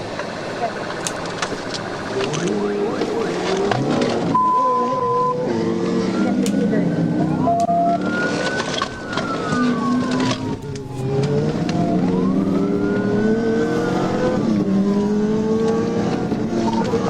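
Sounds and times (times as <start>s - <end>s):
car engine accelerating hard: 0.0s - 17.0s
police siren wailing: 2.0s - 17.0s.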